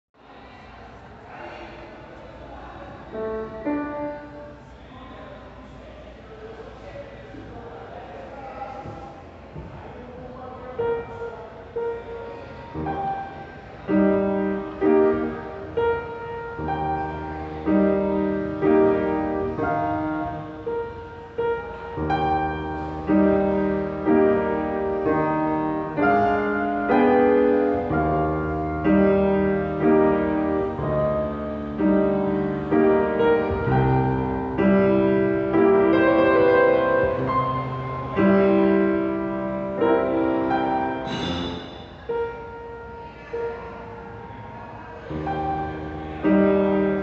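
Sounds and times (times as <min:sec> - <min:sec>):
piano playing: 0:03.0 - 0:04.9, 0:10.6 - 0:47.0.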